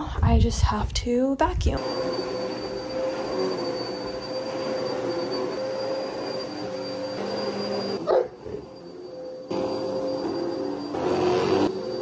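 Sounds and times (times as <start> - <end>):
vacuum cleaner motor whine: 1.8 - 12.0.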